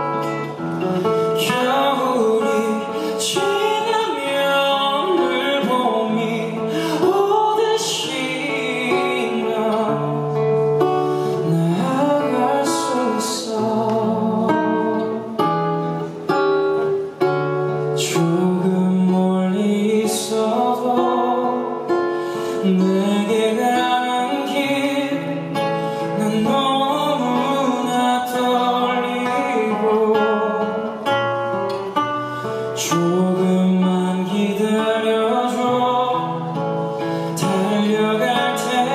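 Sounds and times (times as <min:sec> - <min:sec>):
man singing into a microphone: 0:00.0 - 0:15.4, 0:17.7 - 0:31.2, 0:32.3 - 0:38.9
acoustic guitar: 0:00.0 - 0:38.9.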